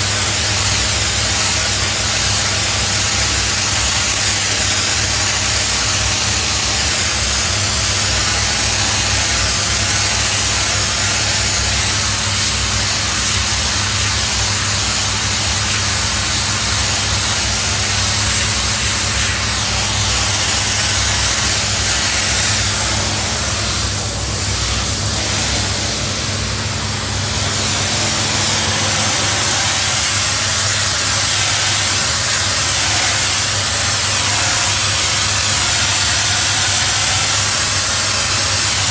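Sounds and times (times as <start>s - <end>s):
steam jet hissing: 0.0s - 38.9s.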